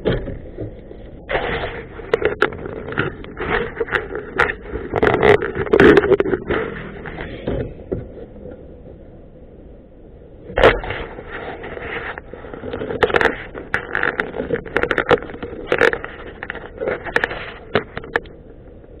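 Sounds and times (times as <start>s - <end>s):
motorcycle engine and road noise: 0.0s - 19.0s.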